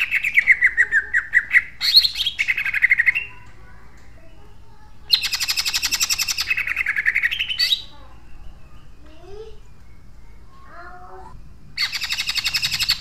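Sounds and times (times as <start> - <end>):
bird singing rapid song: 0.0 - 13.0.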